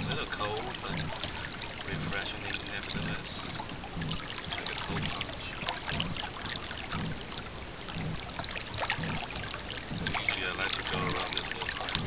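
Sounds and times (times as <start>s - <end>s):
soft low pulse: 0.0s - 12.0s
water splashing along a boat hull: 0.0s - 12.0s.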